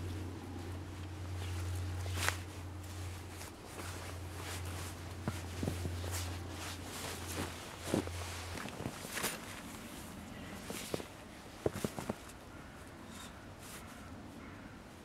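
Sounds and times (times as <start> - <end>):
cord and jacket rustling: 0.0 - 12.4.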